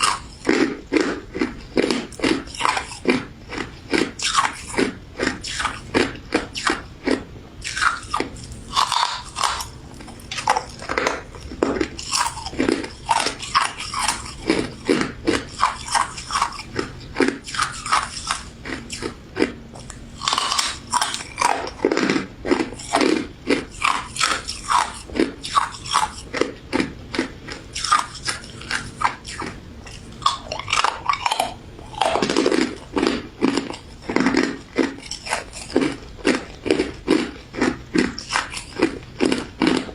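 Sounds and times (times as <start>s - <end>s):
crunching ice dessert: 0.0s - 39.9s.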